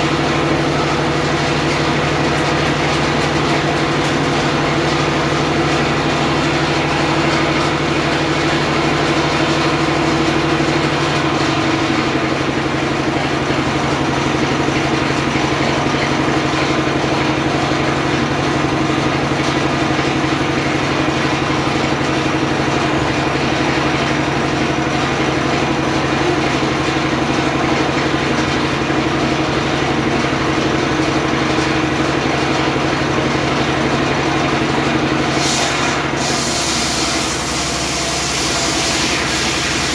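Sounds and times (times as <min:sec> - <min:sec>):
circular sawmill engine humming: 0:00.0 - 0:39.9.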